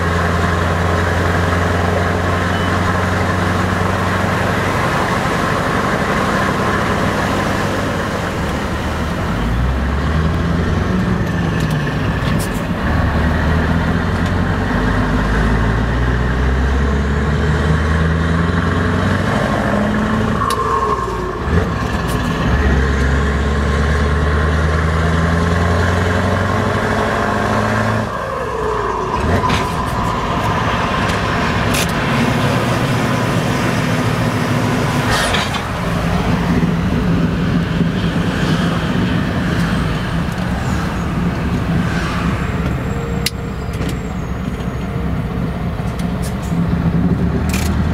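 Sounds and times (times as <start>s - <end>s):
truck engine pulling under load: 0.0s - 47.9s.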